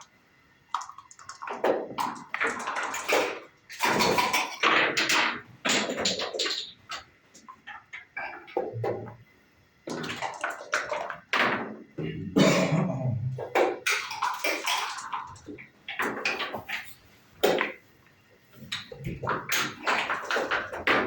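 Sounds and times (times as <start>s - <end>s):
dice and checkers clicking on wood: 0.7s - 9.2s, 9.9s - 11.8s, 13.4s - 17.8s, 18.6s - 21.0s.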